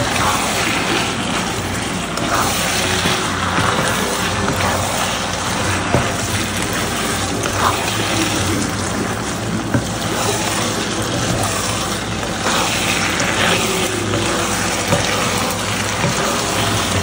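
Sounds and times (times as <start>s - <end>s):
sauce sizzling and bubbling: 0.0s - 17.0s
wooden spatula scraping pan: 0.0s - 17.0s.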